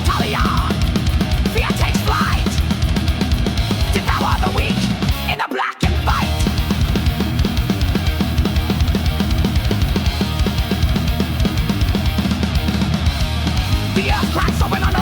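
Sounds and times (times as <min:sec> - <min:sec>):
electric guitar: 0:00.0 - 0:15.0
fast heavy metal drumming: 0:00.0 - 0:15.0.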